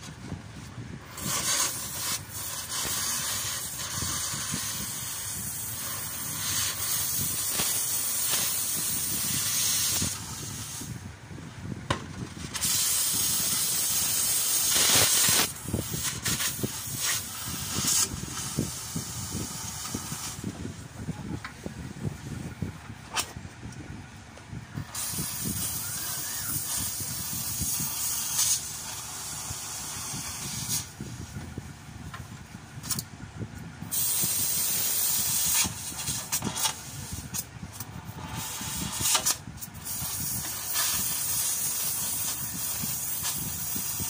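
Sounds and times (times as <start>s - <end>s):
gas torch hissing: 0.0s - 23.4s, 24.7s - 33.1s, 33.8s - 44.0s.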